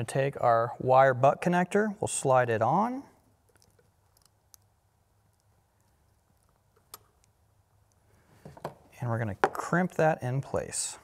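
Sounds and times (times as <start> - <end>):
quiet room hum: 0.0 - 11.0.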